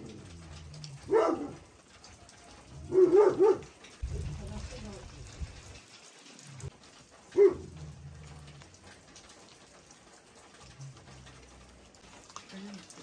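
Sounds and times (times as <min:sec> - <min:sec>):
rain dripping off roof: 0:00.0 - 0:13.0.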